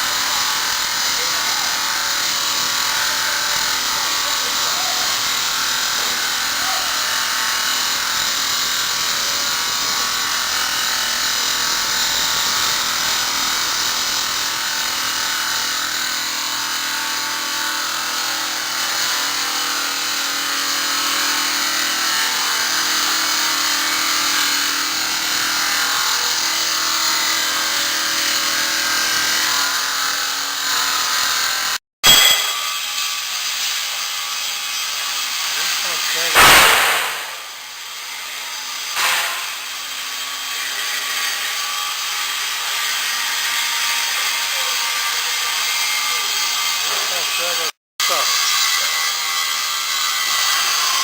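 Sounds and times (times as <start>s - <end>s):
circular saw cutting stone: 0.0s - 51.0s.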